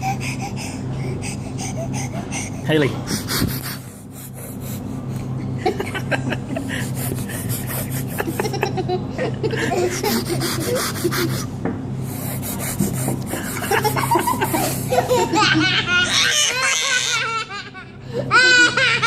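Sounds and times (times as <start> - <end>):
subway train hum: 0.0 - 19.0.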